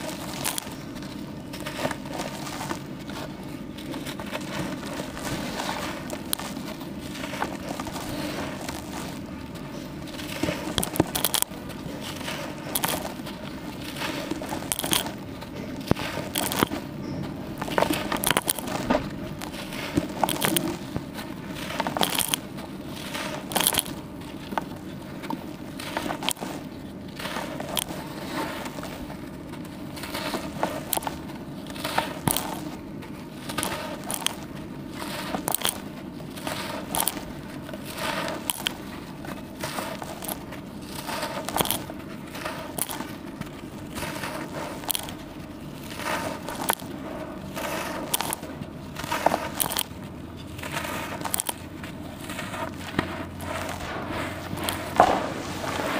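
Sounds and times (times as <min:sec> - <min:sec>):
charcoal crunching by hand: 0:00.0 - 0:55.9
steady low hum: 0:00.0 - 0:55.9.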